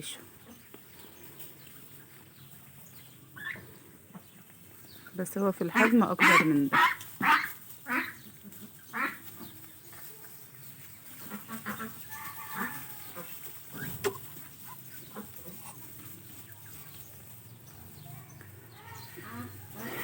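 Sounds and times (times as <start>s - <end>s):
ducks calling: 0.0s - 10.0s, 10.8s - 17.5s, 18.4s - 20.0s.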